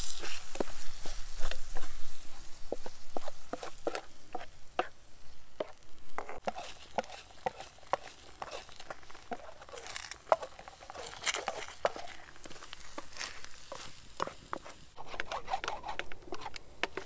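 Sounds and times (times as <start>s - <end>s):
frying sizzle: 0.0s - 15.0s
wooden spatula scraping a skillet: 0.0s - 17.0s.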